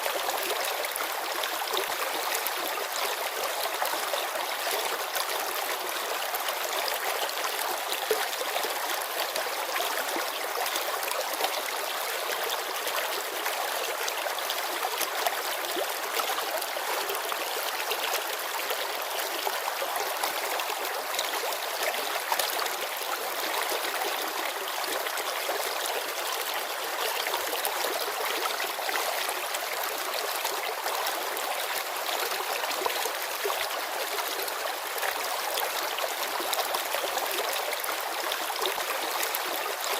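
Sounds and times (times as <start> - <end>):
river babbling over stones: 0.0 - 39.9.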